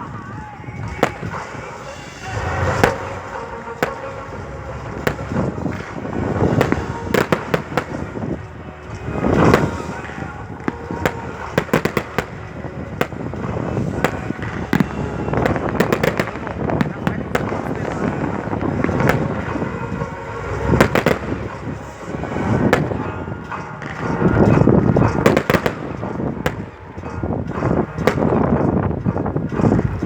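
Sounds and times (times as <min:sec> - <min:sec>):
fireworks cracking and banging: 0:00.0 - 0:30.0
booming firework bursts: 0:00.8 - 0:30.0.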